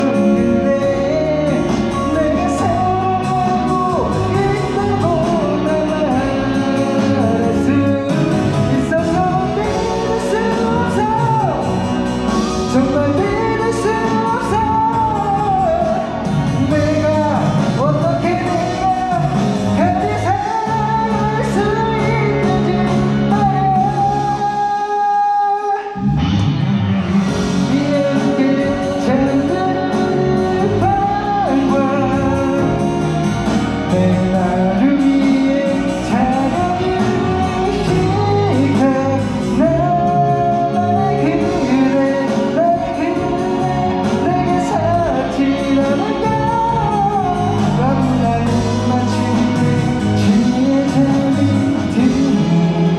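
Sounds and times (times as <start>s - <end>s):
instrumental accompaniment: 0.0s - 52.9s
person singing: 0.0s - 52.9s.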